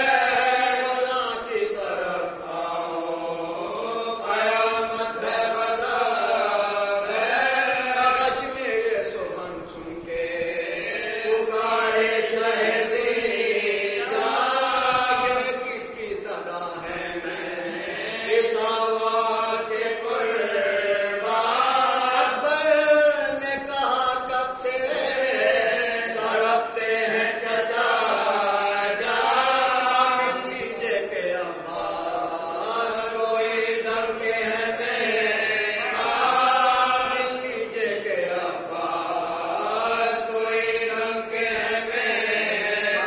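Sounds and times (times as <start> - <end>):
group of men chanting: 0.0 - 8.9, 10.1 - 43.0
lead reciter chanting: 0.0 - 43.0.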